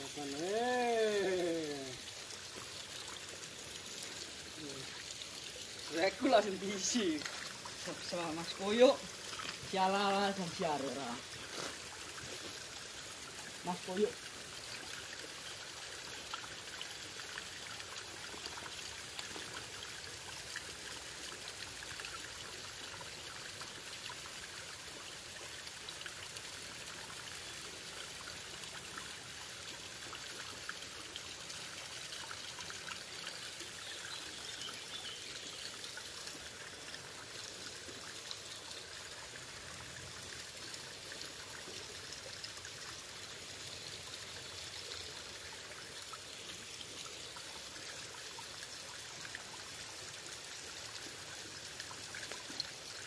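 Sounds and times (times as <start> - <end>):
rocky stream trickling: 0.0 - 53.0.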